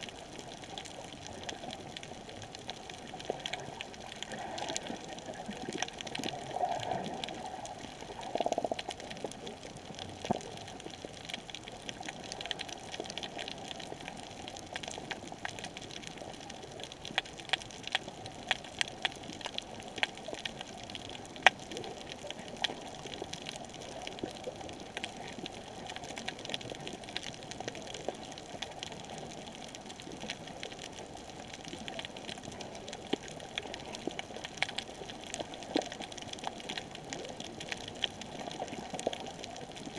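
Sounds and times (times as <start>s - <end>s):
sharp clicks and crackles: 0.0s - 39.9s.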